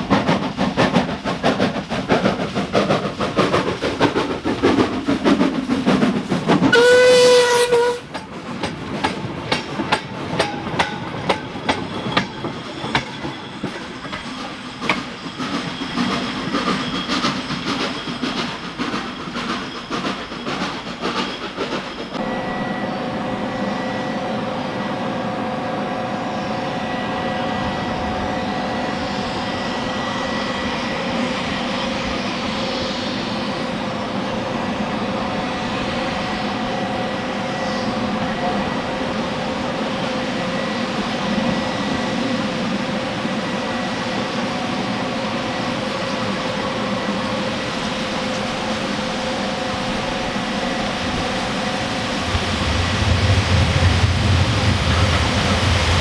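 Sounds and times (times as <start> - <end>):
train clattering on rails: 0.0 - 22.5, 27.6 - 56.0
train rolling rumble: 0.0 - 56.0.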